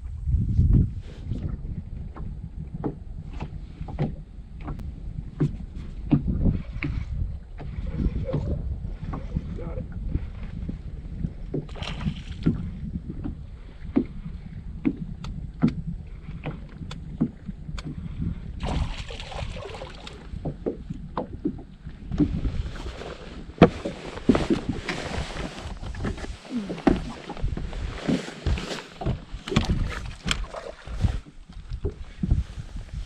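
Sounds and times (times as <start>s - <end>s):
wind rumble on microphone: 0.0s - 33.0s
knocks and clicks on a boat: 0.7s - 18.6s, 20.0s - 32.4s.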